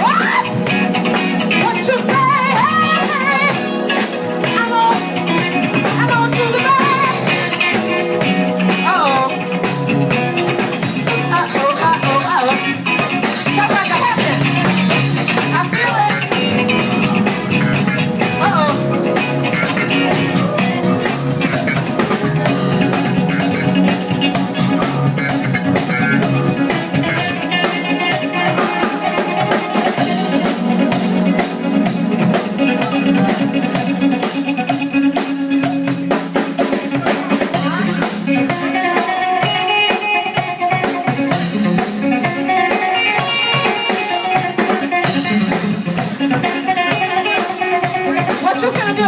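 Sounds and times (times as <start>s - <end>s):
funk band playing: 0.0s - 49.0s.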